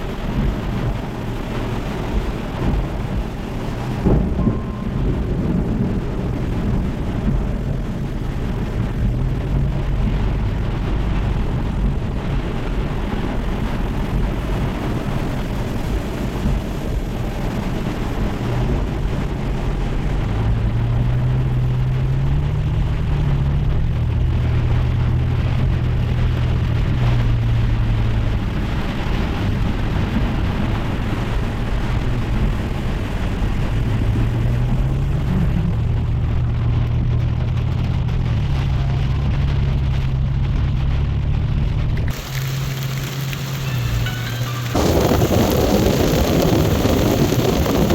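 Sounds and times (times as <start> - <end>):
steady rushing noise: 0.0 - 47.9
vehicle engine humming: 0.0 - 47.9.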